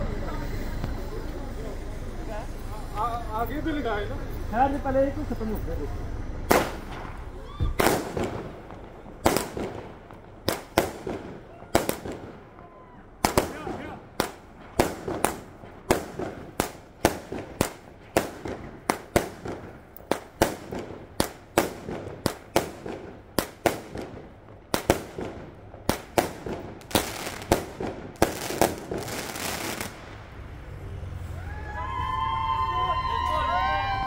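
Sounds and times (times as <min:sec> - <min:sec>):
fireworks banging: 0:00.0 - 0:31.3
fireworks crackling: 0:00.0 - 0:34.0.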